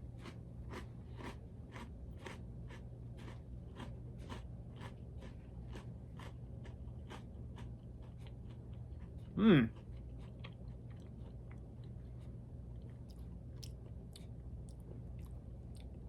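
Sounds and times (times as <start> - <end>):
person chewing cracker: 0.0 - 16.0.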